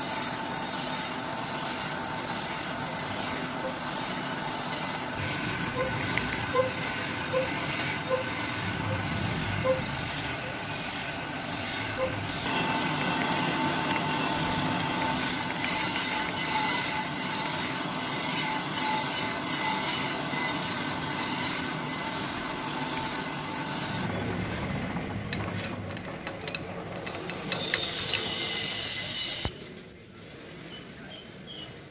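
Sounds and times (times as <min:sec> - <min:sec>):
grinding wheel hissing grind: 0:00.0 - 0:24.1, 0:25.4 - 0:29.5
machine noise: 0:00.0 - 0:29.6.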